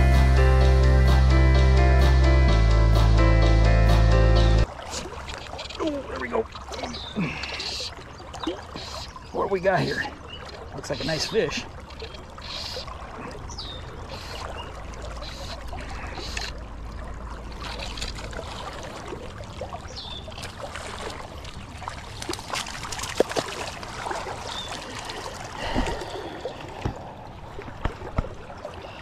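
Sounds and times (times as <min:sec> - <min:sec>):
fish splashing: 0:04.6 - 0:09.3, 0:10.0 - 0:29.0.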